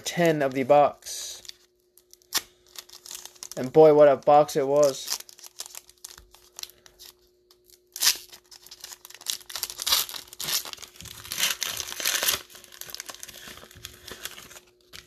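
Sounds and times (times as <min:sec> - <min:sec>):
foil wrapper tearing and crinkling: 0:01.2 - 0:15.0.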